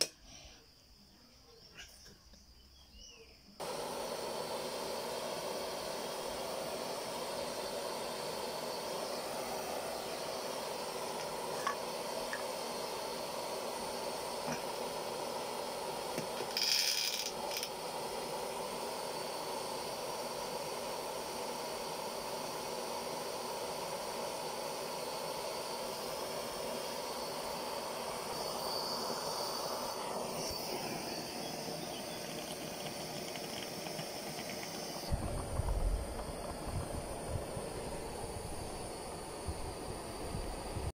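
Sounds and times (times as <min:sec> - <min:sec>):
gas burner hissing: 0:00.0 - 0:00.7, 0:03.5 - 0:40.9
sharp high hiss: 0:03.4 - 0:40.9.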